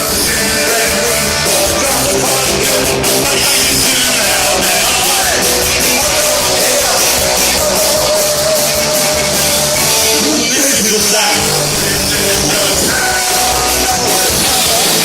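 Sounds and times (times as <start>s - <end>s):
person singing: 0.0s - 15.0s
punk rock band playing: 0.0s - 15.0s.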